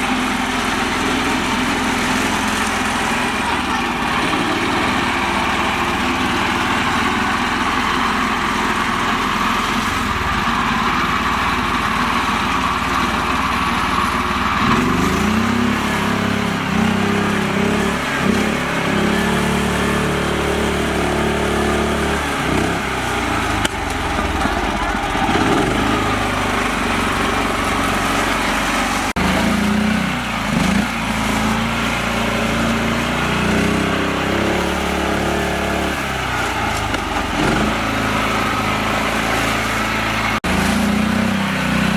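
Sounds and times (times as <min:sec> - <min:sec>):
small tractor engine revving: 0:00.0 - 0:41.9.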